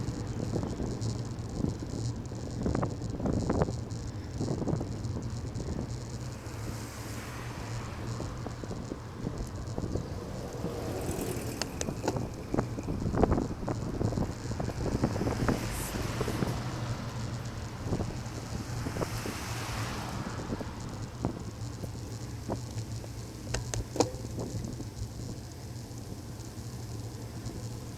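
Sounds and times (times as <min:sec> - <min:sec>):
small clicks and rattles: 0:00.0 - 0:27.9
wind buffeting microphone: 0:00.0 - 0:27.9.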